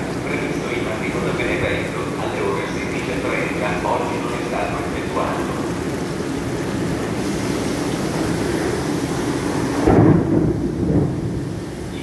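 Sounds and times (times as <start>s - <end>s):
low buffeting: 0.0s - 12.0s
railway platform ambience rumble: 0.0s - 12.0s.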